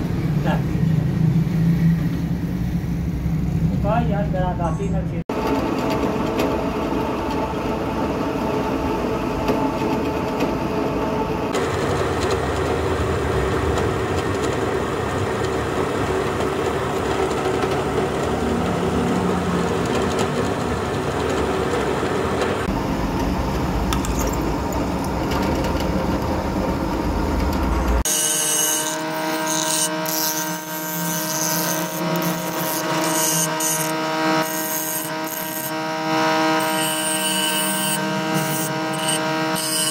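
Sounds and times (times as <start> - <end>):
bench grinder whine: 5.3 - 39.9.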